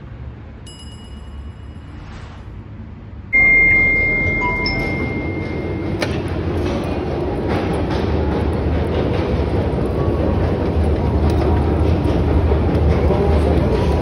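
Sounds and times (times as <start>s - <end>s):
low rumble of metro machinery: 0.0s - 14.0s.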